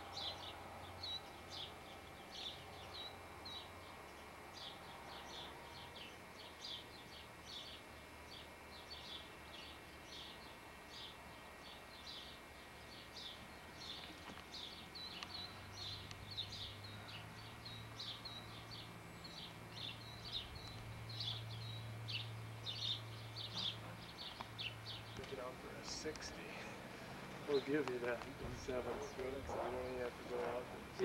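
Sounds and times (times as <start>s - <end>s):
birds chirping: 0.0s - 31.0s
low steady hum: 0.0s - 31.0s.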